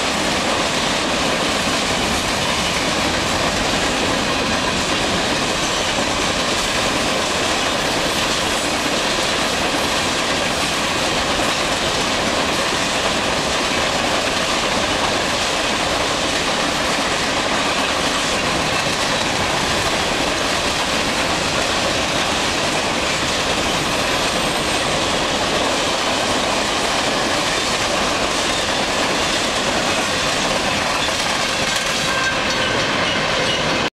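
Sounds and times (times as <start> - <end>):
freight train wheels rumbling: 0.0 - 33.9.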